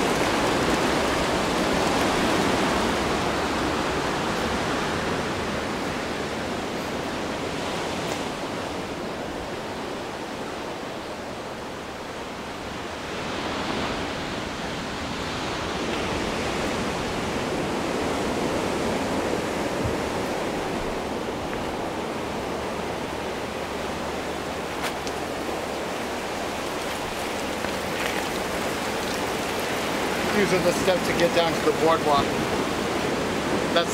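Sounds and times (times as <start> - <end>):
ocean surf breaking: 0.0 - 33.9.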